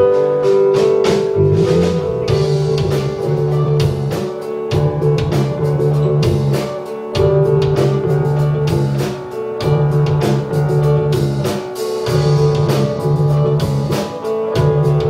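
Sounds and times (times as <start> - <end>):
bass line: 0.0 - 15.0
drum kit beat: 0.0 - 15.0.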